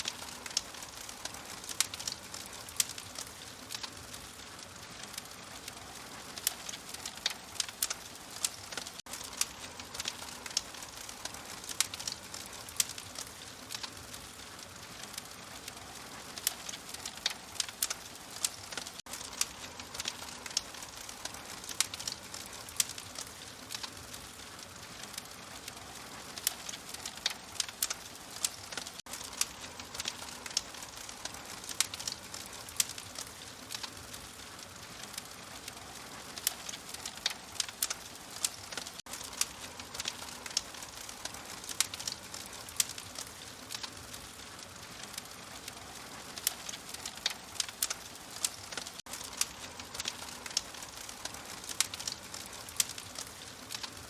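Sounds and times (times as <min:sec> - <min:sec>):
fire crackling: 0:00.0 - 0:54.0
sharp pops and snaps: 0:00.0 - 0:54.0.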